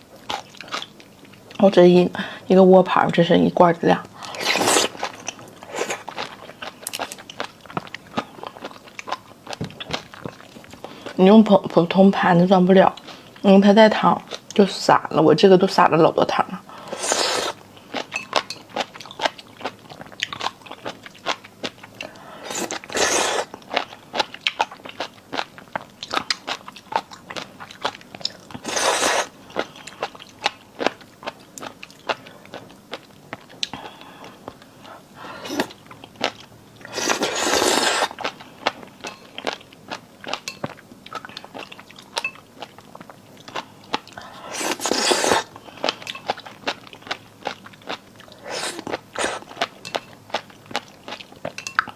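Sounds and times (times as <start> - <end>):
chewing crunchy food: 0.1 - 1.7, 4.0 - 11.2, 16.7 - 51.9.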